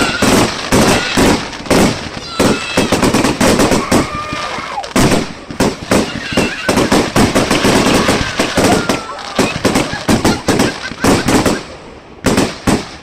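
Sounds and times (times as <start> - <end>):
fireworks bangs and cracks: 0.0 - 13.0.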